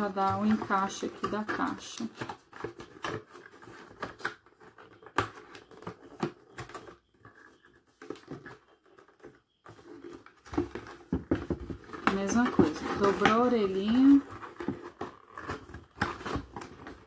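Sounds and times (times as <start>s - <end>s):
cardboard box being folded: 0.0s - 17.0s.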